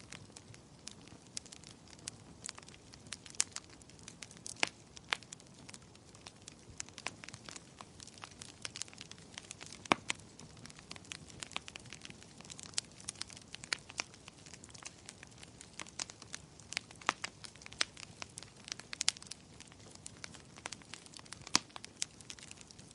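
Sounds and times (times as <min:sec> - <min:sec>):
faint steady hiss: 0:00.0 - 0:22.9
wood fire crackling: 0:00.0 - 0:22.9.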